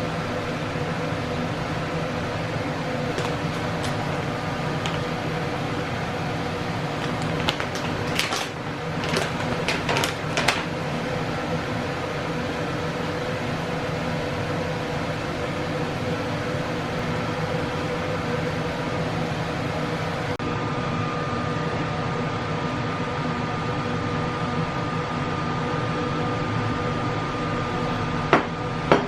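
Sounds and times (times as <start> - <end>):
fan motor humming: 0.0 - 29.0.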